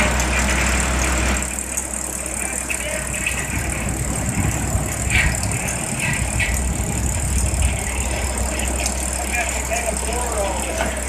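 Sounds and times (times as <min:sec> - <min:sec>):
sawmill machinery rumbling: 0:00.0 - 0:11.0.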